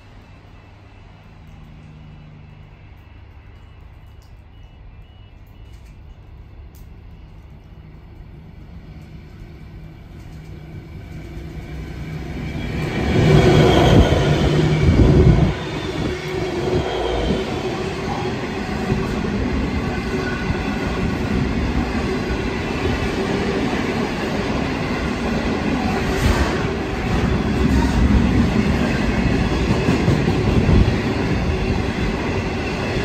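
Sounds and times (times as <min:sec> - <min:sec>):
diesel locomotive passing: 0:00.0 - 0:05.2, 0:06.5 - 0:33.0.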